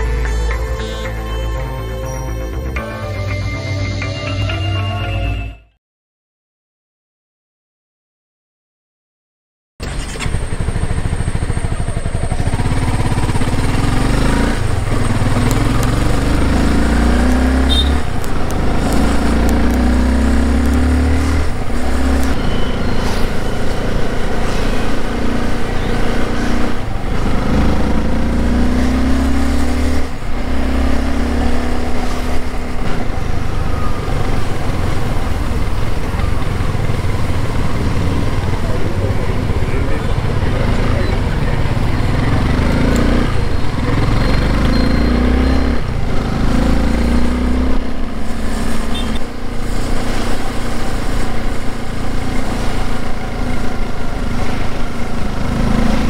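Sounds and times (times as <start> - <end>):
motorcycle engine revving: 9.8 - 56.0.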